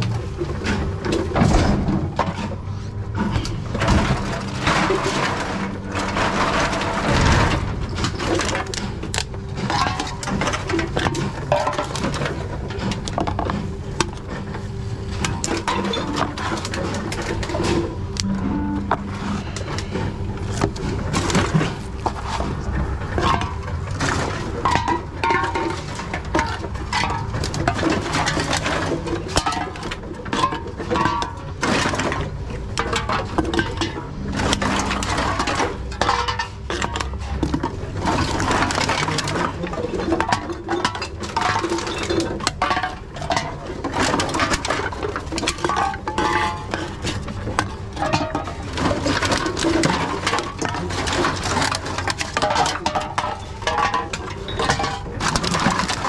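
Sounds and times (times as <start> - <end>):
cans and bottles clinking: 0.0 - 56.0
steady low machine hum: 0.0 - 56.0.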